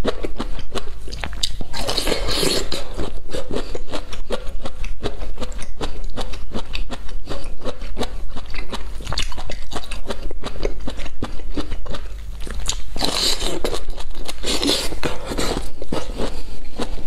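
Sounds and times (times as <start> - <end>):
chewing bamboo shoots crunching: 0.0 - 17.0.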